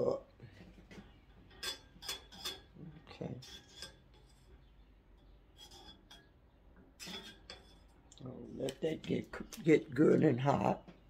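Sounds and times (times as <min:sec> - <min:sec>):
utensil tapping and scraping skillet: 0:00.5 - 0:09.8.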